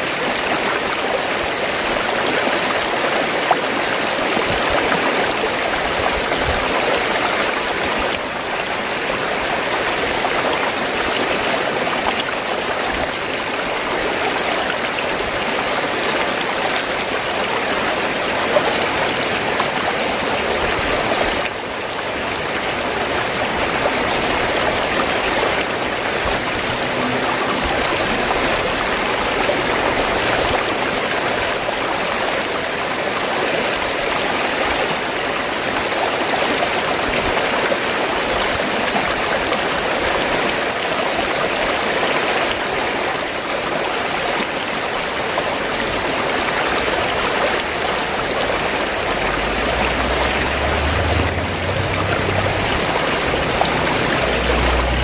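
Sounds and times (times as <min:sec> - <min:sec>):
stream water rushing over rocks: 0:00.0 - 0:55.0.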